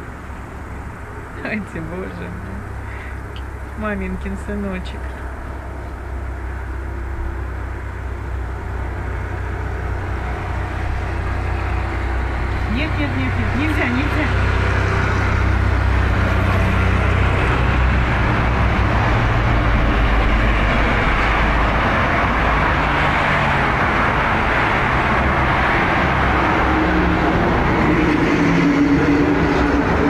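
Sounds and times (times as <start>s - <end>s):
highway traffic passing: 0.0s - 30.0s
low engine rumble: 0.0s - 30.0s.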